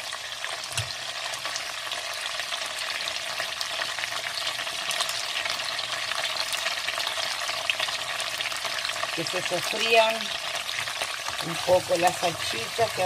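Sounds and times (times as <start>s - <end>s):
sausages and carrots frying in oil: 0.0s - 13.0s
sizzle with crackles and pops: 0.0s - 13.0s.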